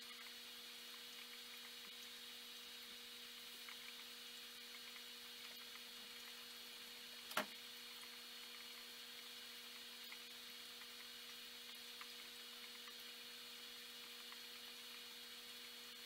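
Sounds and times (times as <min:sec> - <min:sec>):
airstones bubbling: 0:00.0 - 0:16.0
aquarium air pump hum: 0:00.0 - 0:16.0.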